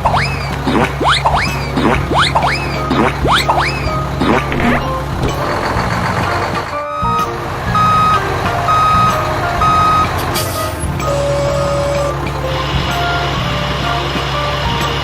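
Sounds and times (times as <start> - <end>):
low engine rumble: 0.0 - 15.0
truck reversing alarm beeping: 0.0 - 15.0.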